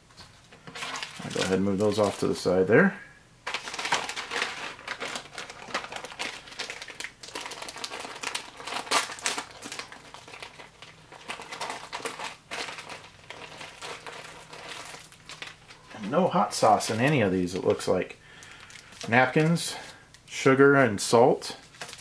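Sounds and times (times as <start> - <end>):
foil and plastic packets crinkling: 0.6 - 2.7, 3.4 - 20.3, 20.9 - 22.0.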